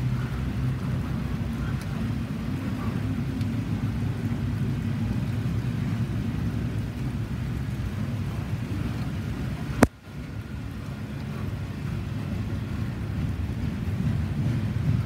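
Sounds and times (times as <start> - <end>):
rain falling: 0.0 - 15.0
train wheels rumbling on rail: 0.0 - 15.0.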